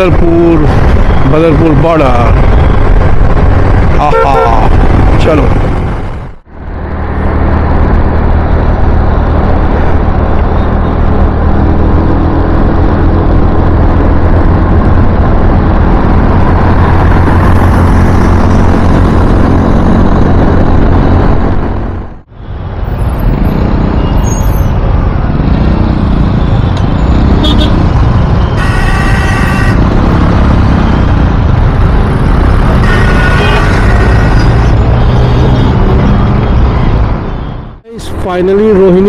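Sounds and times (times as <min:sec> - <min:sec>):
wind and road noise: 0:00.0 - 0:39.0.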